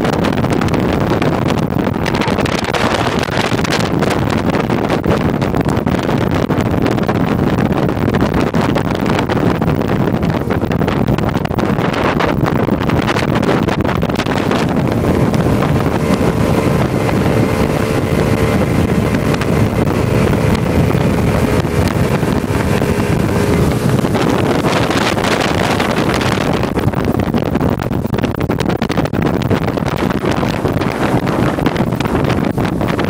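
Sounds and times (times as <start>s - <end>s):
outboard motor running: 0.0s - 33.0s
water rushing in wake: 0.0s - 33.0s
wind buffeting microphone: 0.0s - 33.0s.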